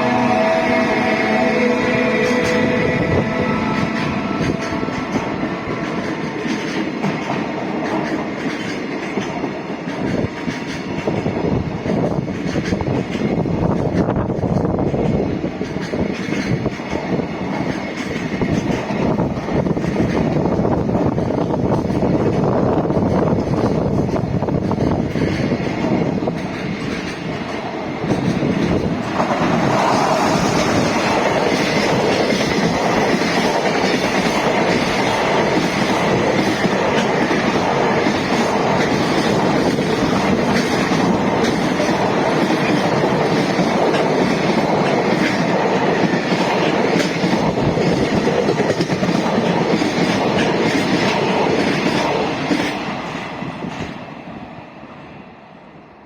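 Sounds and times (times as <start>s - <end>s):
train wheels clattering over rails: 0.0s - 54.5s.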